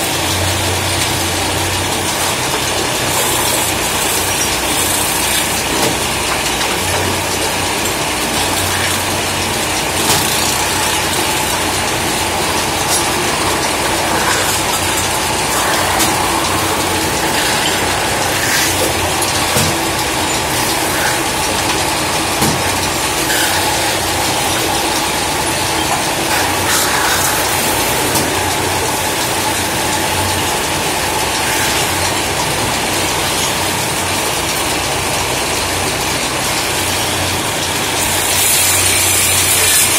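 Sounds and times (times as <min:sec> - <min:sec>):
metal-spinning lathe running: 0:00.0 - 0:39.9.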